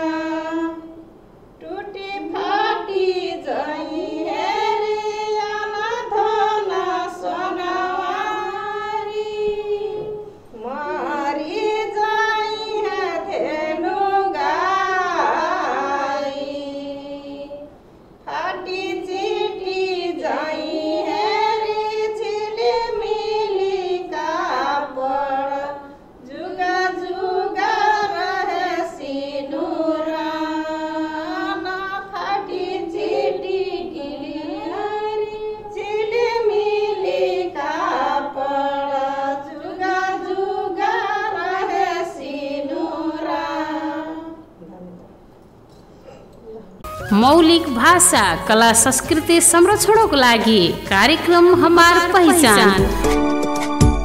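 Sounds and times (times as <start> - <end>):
women singing: 0.0 - 44.7, 46.8 - 53.1.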